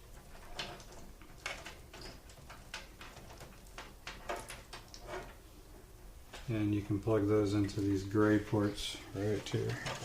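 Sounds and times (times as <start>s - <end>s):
cables rustling: 0.0s - 10.0s.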